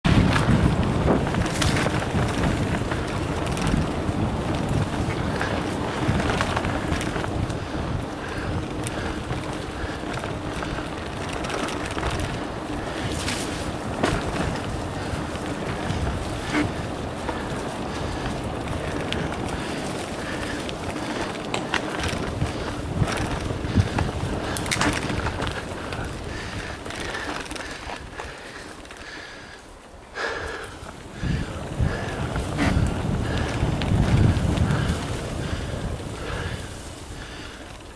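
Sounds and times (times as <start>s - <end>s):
bike rattles and knocks: 0.0s - 37.9s
bike tyre noise on dirt: 0.0s - 37.9s
wind buffeting microphone: 0.0s - 37.9s.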